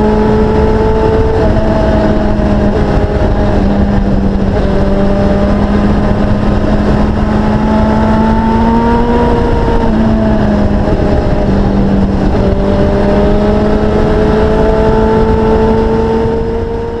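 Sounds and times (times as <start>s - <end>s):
motorcycle engine at high revs: 0.0s - 17.0s
wind rush on microphone: 0.0s - 17.0s.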